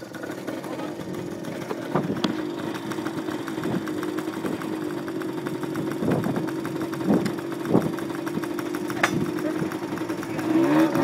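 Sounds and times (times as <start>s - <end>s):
motorbike engine idling: 0.0s - 11.0s.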